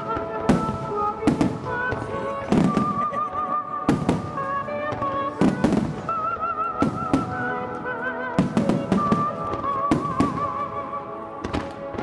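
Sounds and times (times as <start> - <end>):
music with wavering melody: 0.0 - 12.0.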